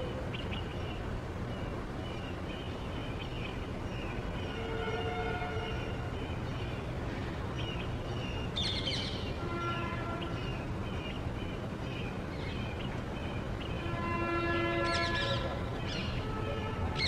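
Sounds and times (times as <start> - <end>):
small birds chirping: 0.0 - 16.4
low background rumble: 0.0 - 17.0.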